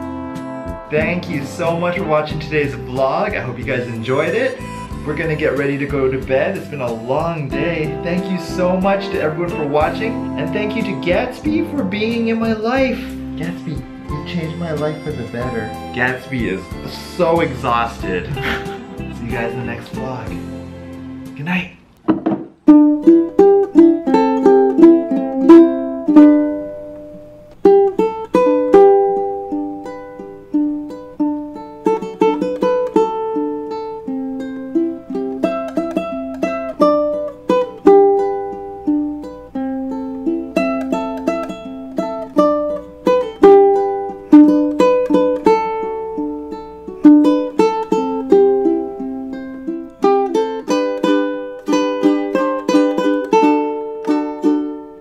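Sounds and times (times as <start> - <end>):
ukulele strummed and picked: 0.0 - 55.0.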